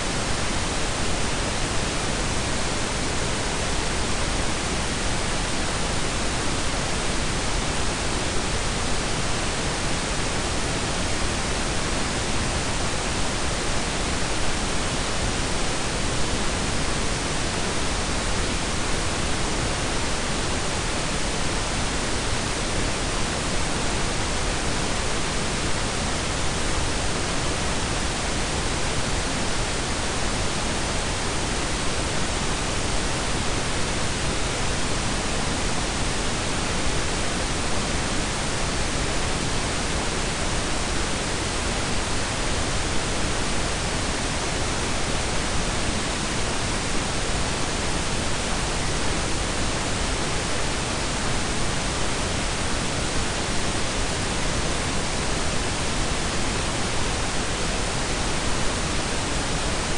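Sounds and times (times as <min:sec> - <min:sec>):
steady noise hiss: 0:00.0 - 0:59.9.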